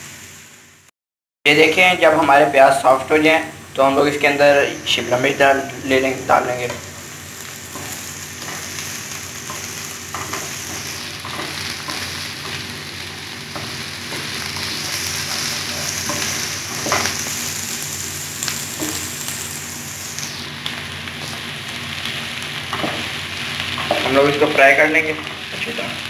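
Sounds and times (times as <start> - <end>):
vegetables sizzling in hot oil: 0.0 - 0.9, 3.1 - 26.0.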